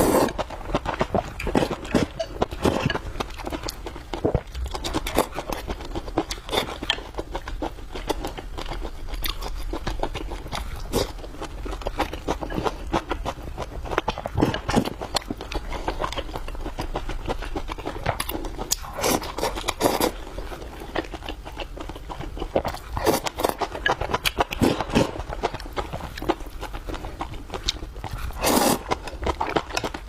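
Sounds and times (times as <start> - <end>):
close-miked chewing: 0.0 - 30.0.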